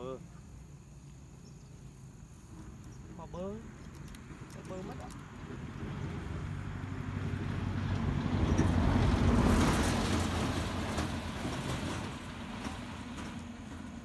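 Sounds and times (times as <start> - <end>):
passing vehicle engine hum: 2.1 - 14.0.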